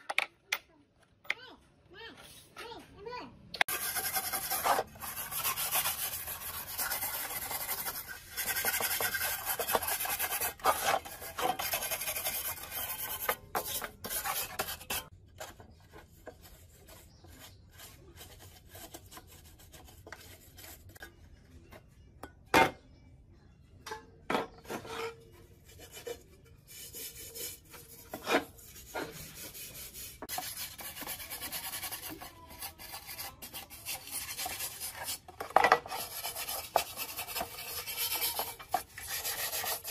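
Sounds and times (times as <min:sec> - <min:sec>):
wooden block scraping rusty metal: 0:03.6 - 0:21.9, 0:23.9 - 0:39.9.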